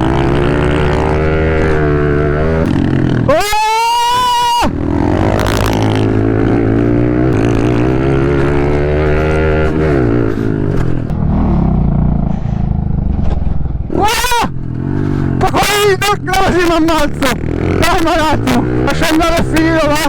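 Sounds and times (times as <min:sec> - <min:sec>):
high-revving engine: 0:00.0 - 0:20.0
pit bike engines revving: 0:00.0 - 0:20.0.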